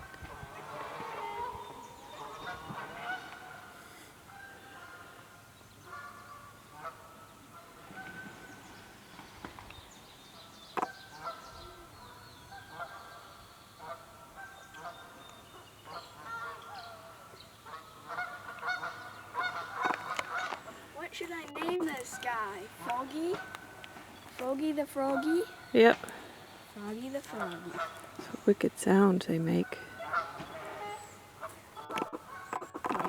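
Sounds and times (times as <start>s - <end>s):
geese honking: 0.0s - 9.1s, 10.4s - 33.0s.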